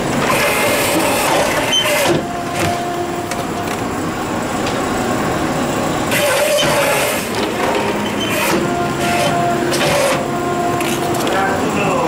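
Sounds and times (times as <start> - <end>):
vending machine mechanical whir: 0.0 - 12.0.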